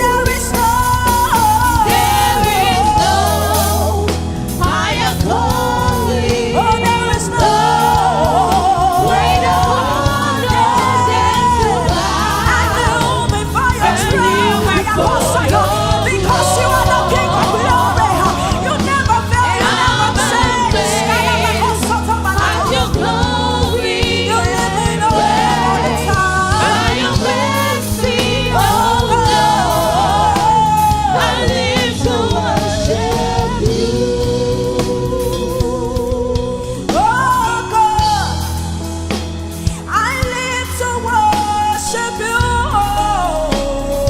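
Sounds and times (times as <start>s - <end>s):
choir voices: 0.0s - 38.7s
bass: 0.0s - 44.0s
lead singer: 0.0s - 44.0s.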